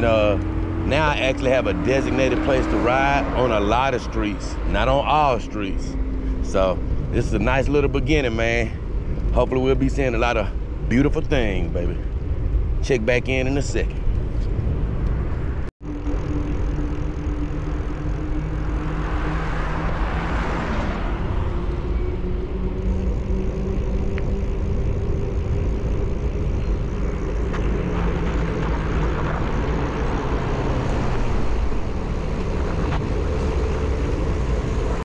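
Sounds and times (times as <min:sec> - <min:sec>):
car engines humming: 0:00.0 - 0:35.0
tyres on the road: 0:00.0 - 0:35.0
wind rumble on microphone: 0:00.0 - 0:35.0.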